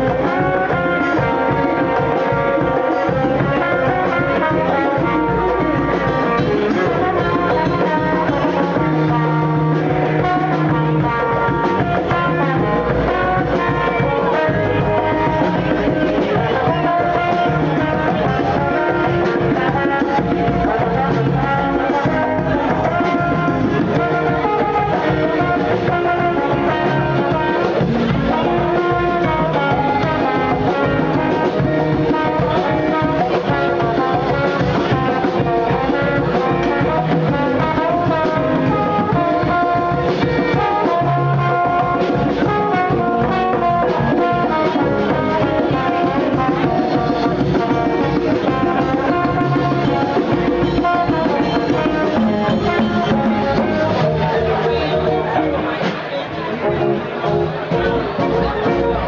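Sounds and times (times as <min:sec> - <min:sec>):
congas and drums: 0:00.0 - 0:59.0
trombone: 0:00.0 - 0:59.0.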